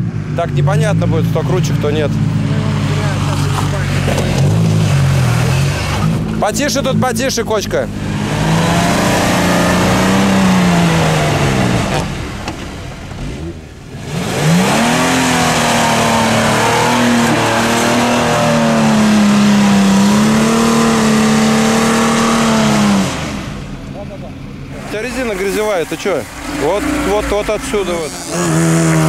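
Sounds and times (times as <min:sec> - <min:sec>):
car engine revving hard: 0:00.0 - 0:24.0, 0:24.6 - 0:29.0.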